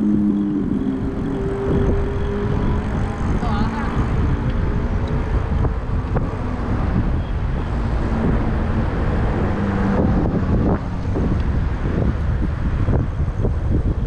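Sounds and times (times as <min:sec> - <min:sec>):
tyre and road noise: 0:00.0 - 0:14.0
wind rumbling on microphone: 0:00.0 - 0:14.0.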